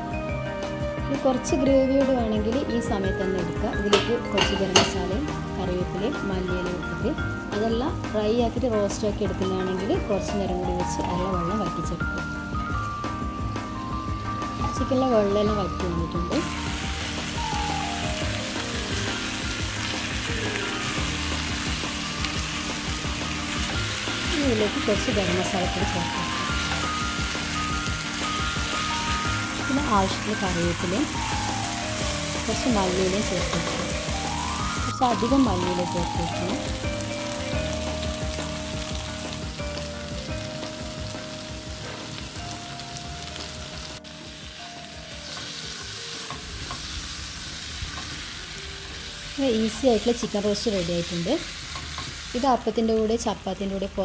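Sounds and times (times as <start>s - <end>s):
chicken sizzling in a pan: 2.5s - 54.0s.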